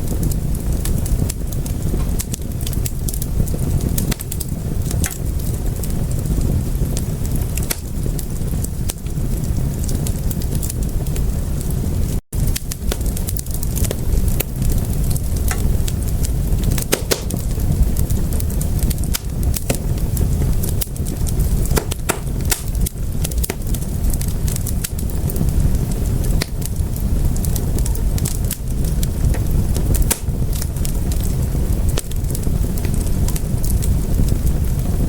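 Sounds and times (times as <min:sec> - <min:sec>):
low noise of flames: 0:00.0 - 0:35.0
wood fire crackling and popping: 0:00.0 - 0:35.0.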